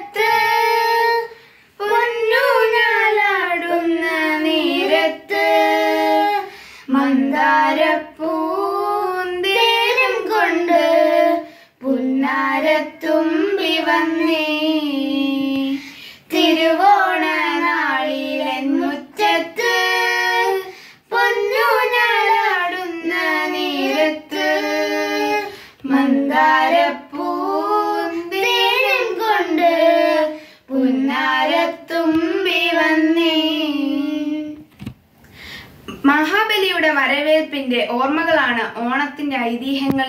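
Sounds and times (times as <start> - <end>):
child singing: 0.0 - 34.6.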